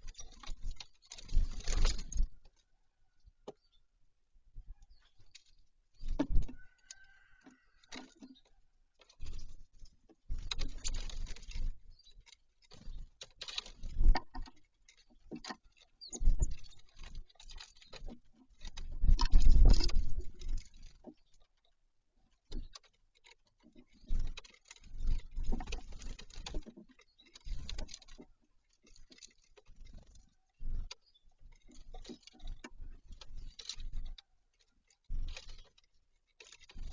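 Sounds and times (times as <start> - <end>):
birds pecking on feeder: 0.0 - 36.9.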